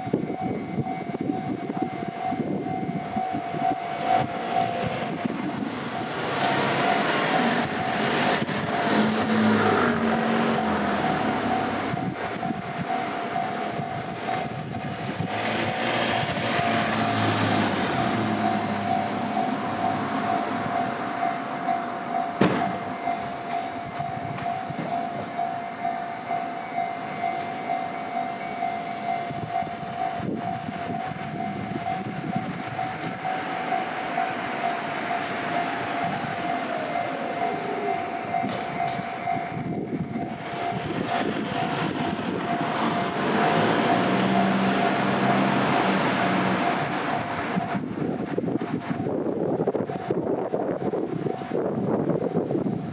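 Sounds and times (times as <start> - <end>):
electronic crossing bell ringing: 0.0 - 8.5, 9.6 - 14.9, 18.2 - 47.6
train passing rumble: 0.0 - 52.9.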